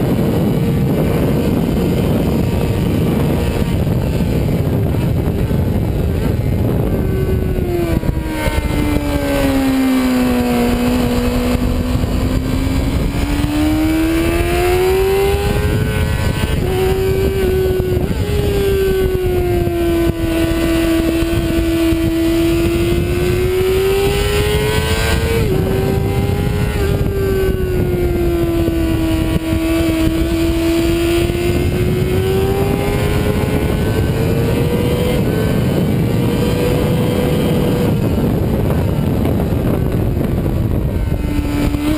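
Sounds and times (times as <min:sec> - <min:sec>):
sportbike engine at racing speed: 0:00.0 - 0:41.9
wind rushing: 0:00.0 - 0:41.9.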